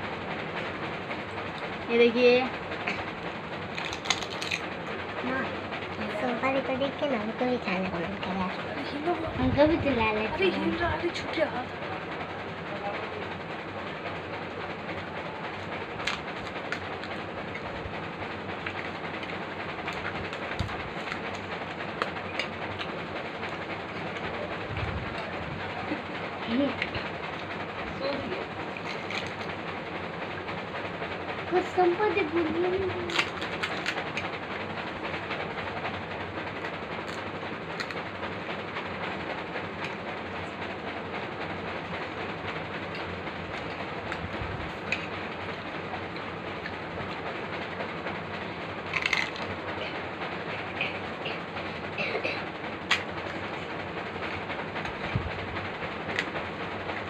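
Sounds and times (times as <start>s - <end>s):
steady rumbling hiss: 0.0s - 57.0s
steady rushing background noise: 0.0s - 57.0s.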